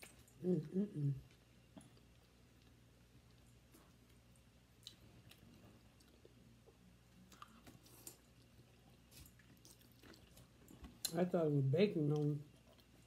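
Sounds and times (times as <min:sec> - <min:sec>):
people chewing: 0:00.0 - 0:11.2
low steady hum: 0:00.0 - 0:13.0.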